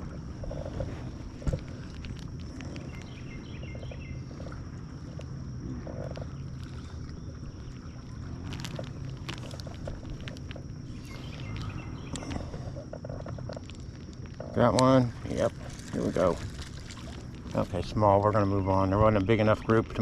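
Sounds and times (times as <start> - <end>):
boat motor humming and whining: 0.0 - 20.0.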